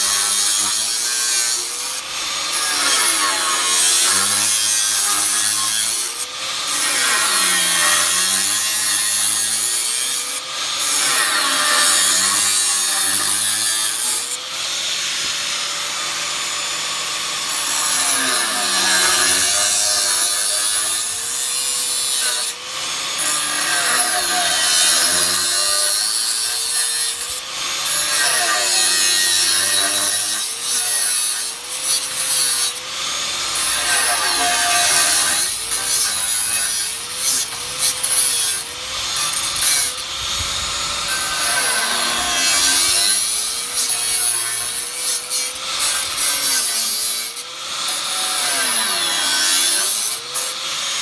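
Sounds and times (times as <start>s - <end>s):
power tool cutting sheet metal: 0.0s - 51.0s.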